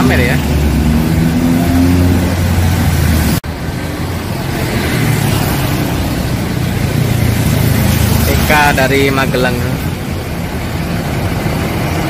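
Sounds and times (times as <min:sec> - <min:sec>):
cars passing: 0:00.0 - 0:12.0
bus engine running low: 0:02.2 - 0:12.0.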